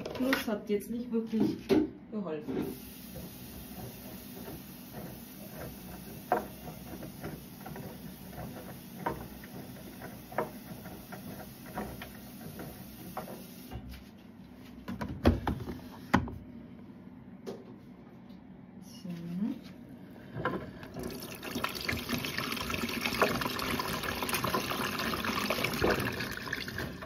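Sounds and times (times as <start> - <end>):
washing machine humming: 1.9 - 18.9, 19.7 - 27.0.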